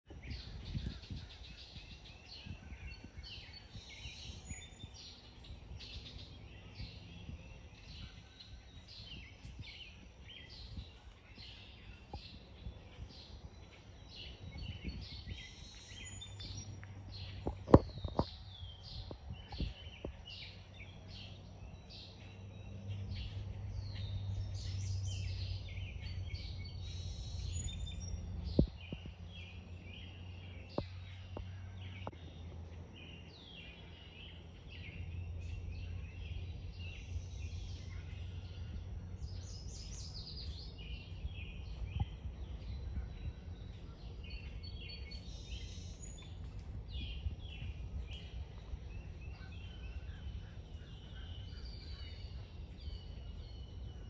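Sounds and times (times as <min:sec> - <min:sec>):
woodland birds singing: 0:00.0 - 0:54.0
low steady hum: 0:00.1 - 0:54.0.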